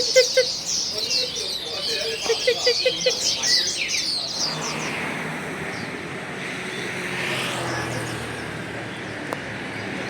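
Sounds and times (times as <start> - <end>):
urban traffic noise: 0.0 - 10.0.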